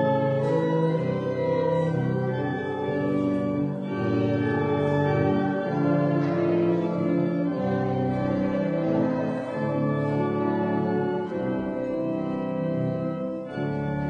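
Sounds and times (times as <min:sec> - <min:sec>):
organ playing sustained chords: 0:00.0 - 0:14.0.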